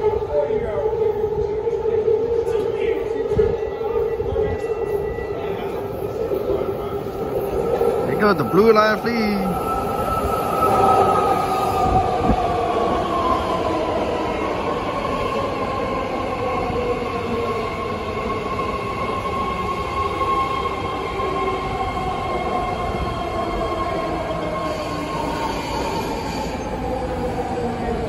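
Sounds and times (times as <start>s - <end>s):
electric train rolling rumble: 0.0s - 28.0s.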